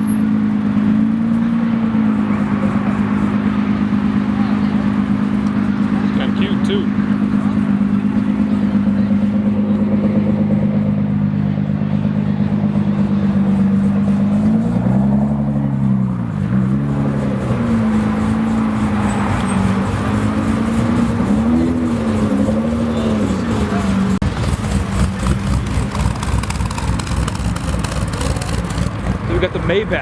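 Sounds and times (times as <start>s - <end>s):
car engine revving: 0.3s - 30.0s.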